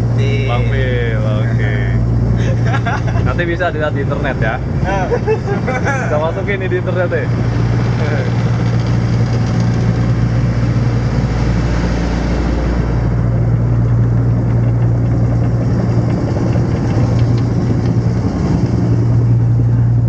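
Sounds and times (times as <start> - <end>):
engine humming and rumbling: 0.0 - 20.0.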